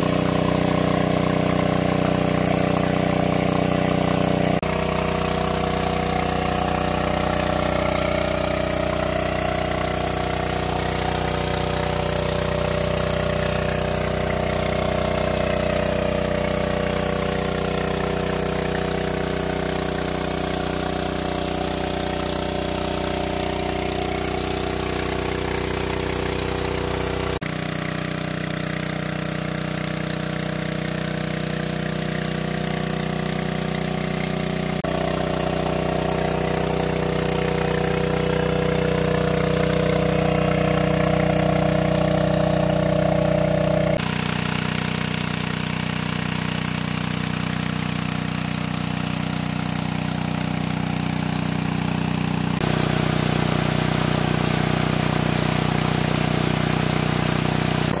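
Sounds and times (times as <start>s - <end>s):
water pump engine throbbing: 0.0s - 58.0s.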